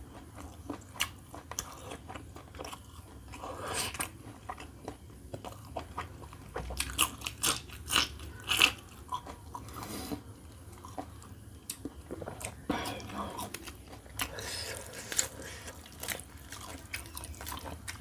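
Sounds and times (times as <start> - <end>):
person chewing chillies: 0.0 - 18.0.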